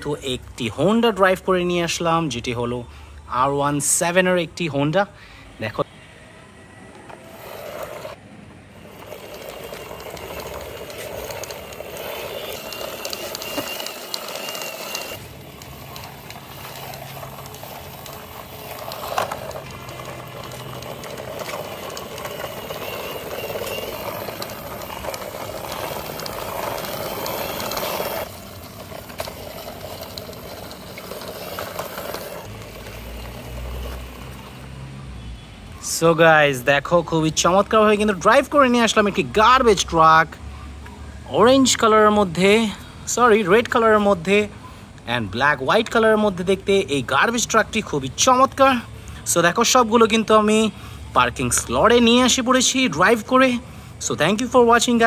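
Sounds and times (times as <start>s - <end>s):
toy truck wheels rolling on concrete: 0.0s - 5.0s, 6.9s - 40.4s, 41.3s - 55.0s.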